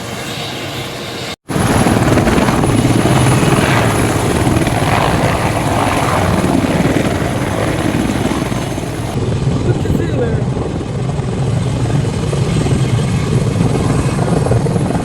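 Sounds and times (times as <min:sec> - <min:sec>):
helicopter rotor blades chopping: 0:00.0 - 0:15.0.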